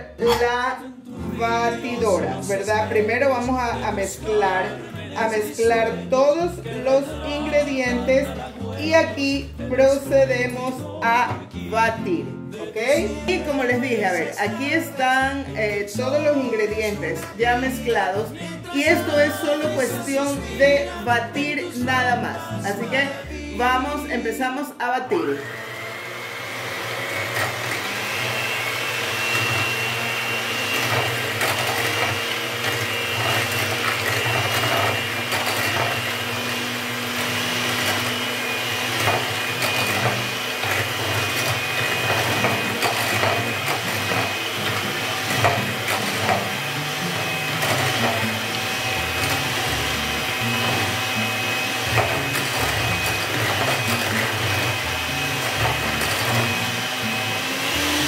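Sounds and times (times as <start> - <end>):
electric hand mixer whining: 0.0 - 24.4, 25.1 - 58.0.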